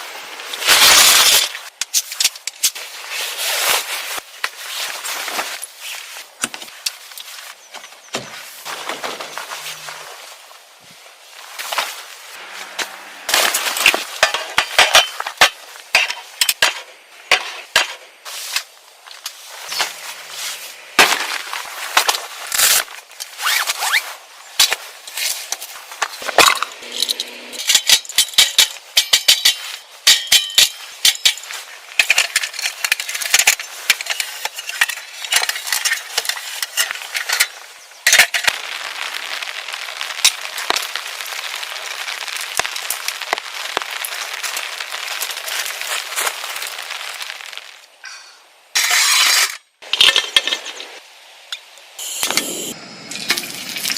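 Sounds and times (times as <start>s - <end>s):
steady hiss: 8.4s - 49.9s, 50.5s - 53.9s.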